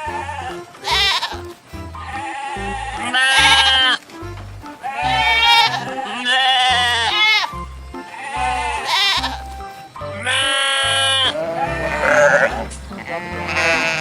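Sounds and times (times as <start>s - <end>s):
livestock bleating: 0.0s - 14.0s
music with steady bass beat: 0.0s - 14.0s.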